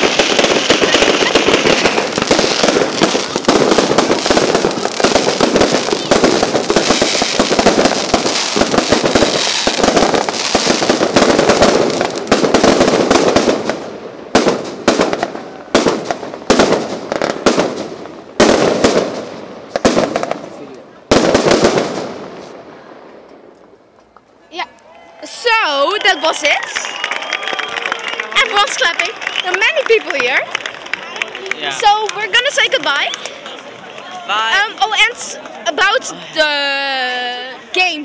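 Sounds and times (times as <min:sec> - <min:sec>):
fireworks bangs and crackling: 0:00.0 - 0:24.2, 0:25.3 - 0:36.3.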